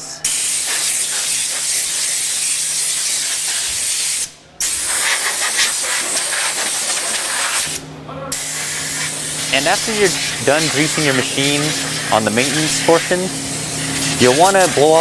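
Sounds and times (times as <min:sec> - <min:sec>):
compressed air hissing: 0:00.2 - 0:15.0.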